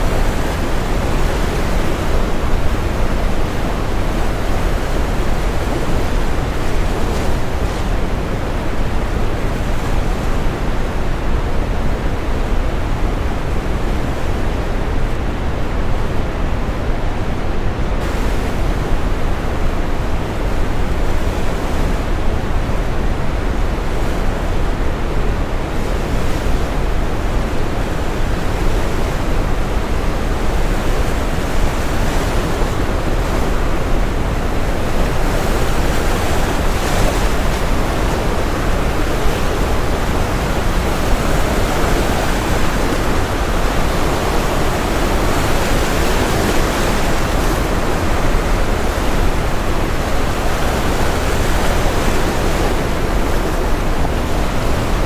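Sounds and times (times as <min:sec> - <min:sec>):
ocean surf: 0:00.0 - 0:55.0.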